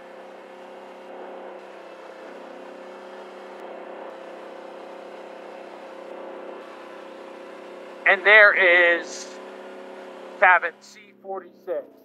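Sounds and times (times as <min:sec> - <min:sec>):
atv engine running steadily: 0:00.0 - 0:12.0.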